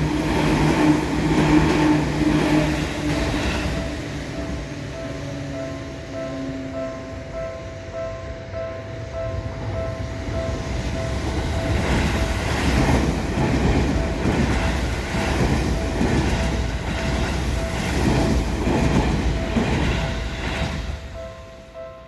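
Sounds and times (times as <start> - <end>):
crossing warning bell ringing: 0.0 - 22.0.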